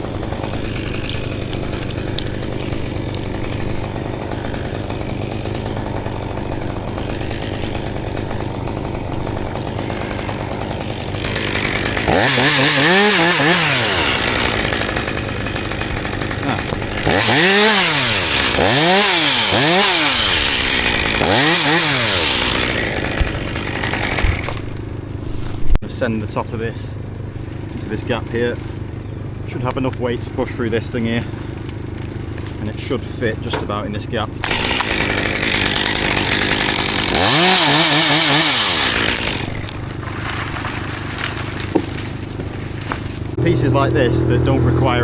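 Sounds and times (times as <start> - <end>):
chainsaw revving: 0.0 - 25.7, 34.4 - 45.0.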